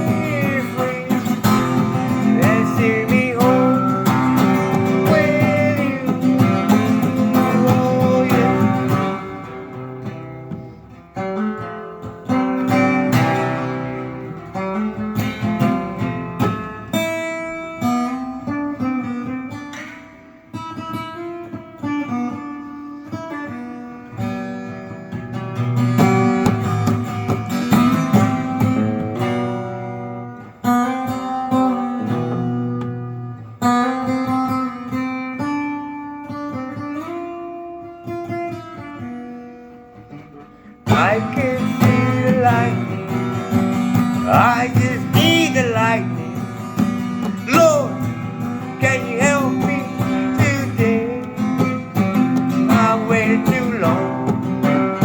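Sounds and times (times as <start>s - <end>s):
guitar plucking notes and chords: 0.0s - 55.0s.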